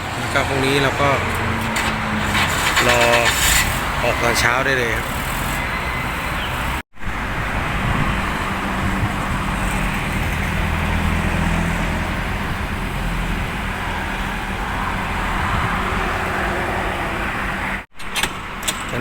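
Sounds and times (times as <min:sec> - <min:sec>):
refrigerated truck humming: 0:00.0 - 0:19.0.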